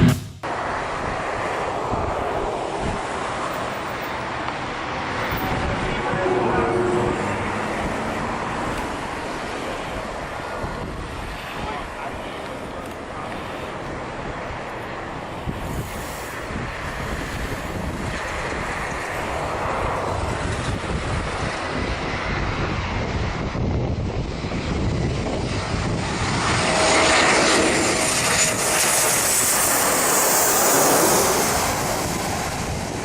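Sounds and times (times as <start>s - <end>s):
airplane engines rushing: 0.0s - 33.0s.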